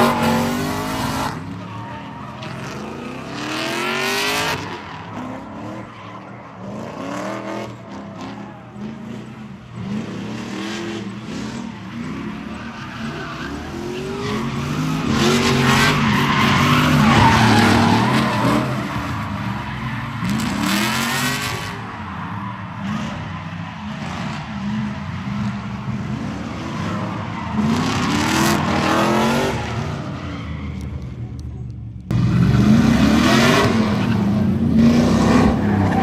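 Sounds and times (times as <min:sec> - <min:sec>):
car engines revving: 0:00.0 - 0:36.0
tyres skidding and squealing: 0:00.0 - 0:36.0.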